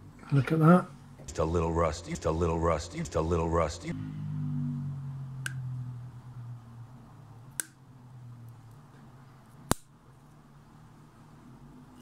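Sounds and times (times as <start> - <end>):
low hum: 0.9 - 12.0.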